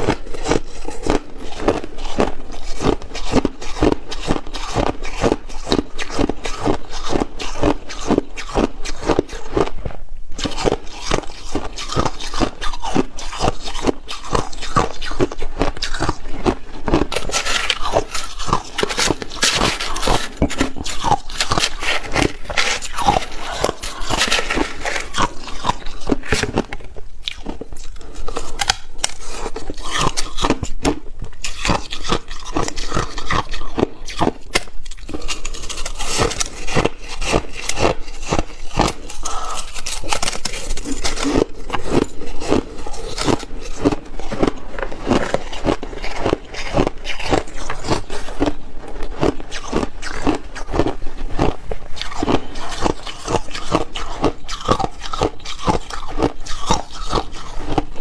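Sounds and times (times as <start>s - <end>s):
person chewing ice: 0.0s - 58.0s.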